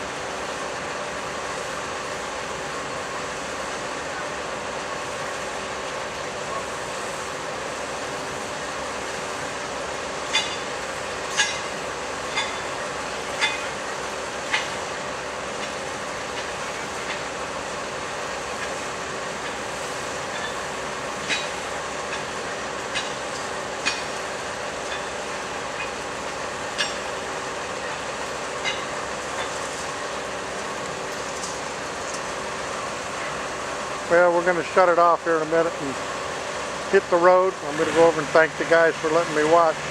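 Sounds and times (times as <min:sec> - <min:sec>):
machinery engine hum: 0:00.0 - 0:39.9.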